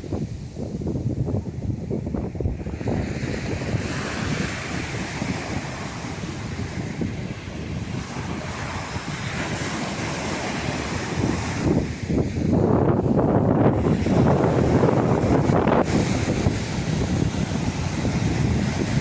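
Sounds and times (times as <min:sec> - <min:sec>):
sea waves washing onto beach: 0:00.0 - 0:19.0
wind buffeting microphone: 0:00.0 - 0:19.0.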